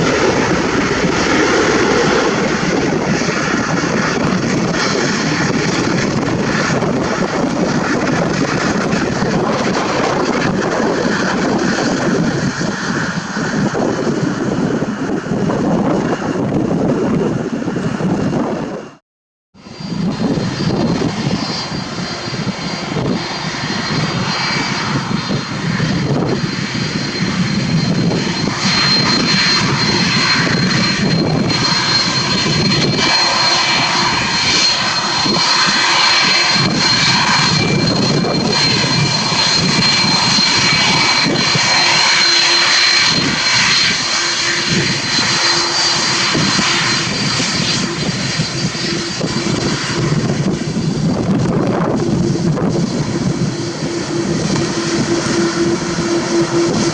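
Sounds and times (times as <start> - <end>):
jet engines roaring with high whine: 0.0 - 19.0, 19.6 - 56.9.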